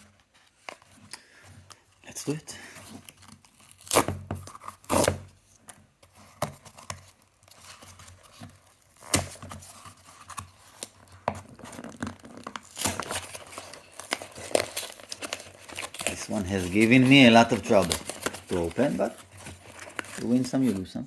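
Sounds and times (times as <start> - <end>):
packaging tearing and crinkling: 3.0 - 5.3, 6.1 - 20.9.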